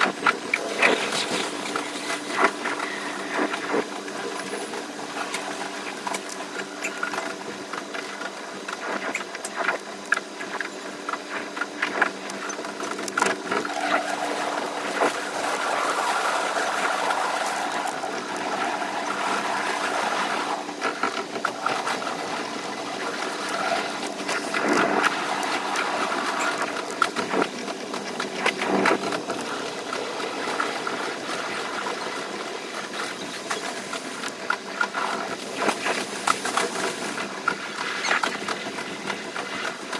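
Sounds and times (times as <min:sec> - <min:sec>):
train running chatter: 0:00.0 - 0:39.9.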